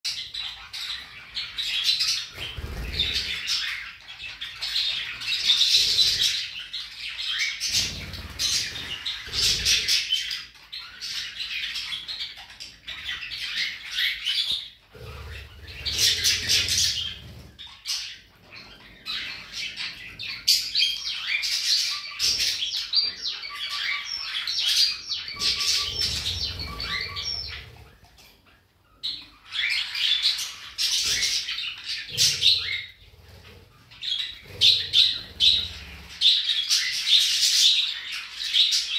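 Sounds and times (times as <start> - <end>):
birds chattering and chirping: 0.0 - 38.9.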